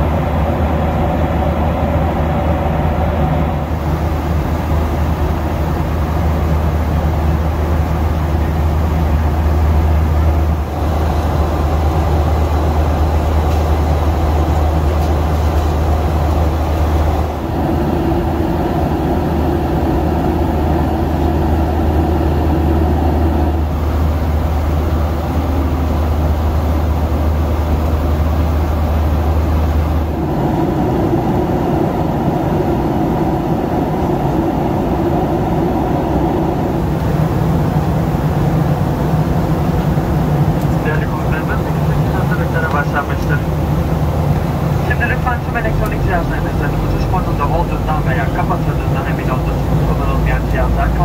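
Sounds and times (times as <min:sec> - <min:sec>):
airliner cabin low hum: 0:00.0 - 0:51.0
airliner cabin rush: 0:00.0 - 0:51.0.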